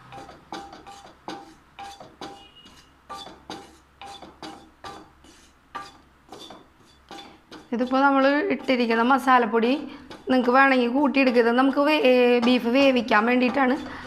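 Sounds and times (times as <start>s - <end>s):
wooden spatula scraping a pan: 0.0s - 14.0s.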